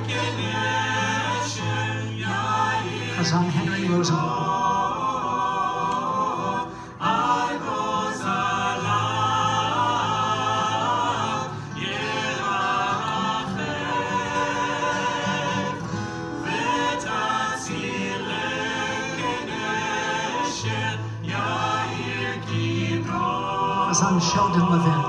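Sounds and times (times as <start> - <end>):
group singing in harmony: 0.0 - 25.0.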